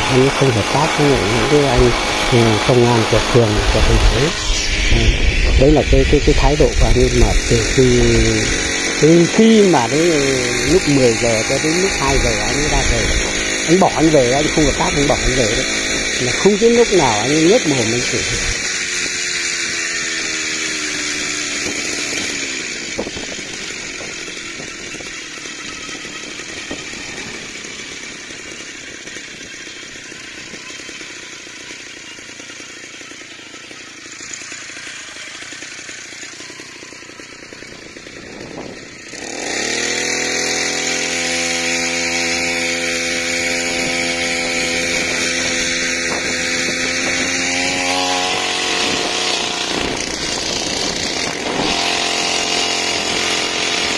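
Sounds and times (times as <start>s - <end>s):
small two-stroke engine revving: 0.0s - 53.9s.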